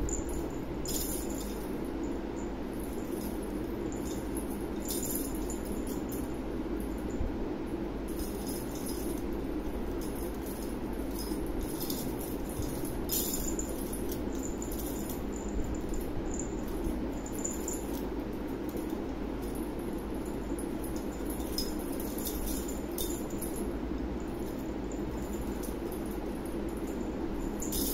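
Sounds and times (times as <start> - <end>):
small bell jingling: 0.0 - 7.3, 8.1 - 27.9
steady background noise: 0.0 - 27.9.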